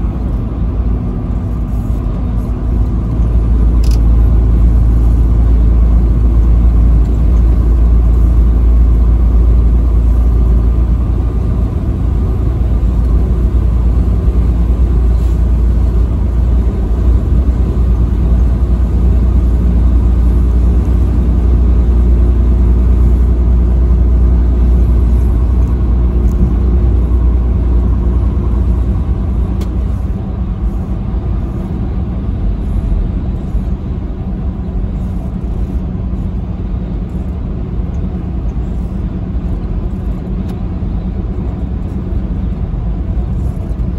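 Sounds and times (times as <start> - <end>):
vehicle driving at highway speed: 0.0 - 43.9.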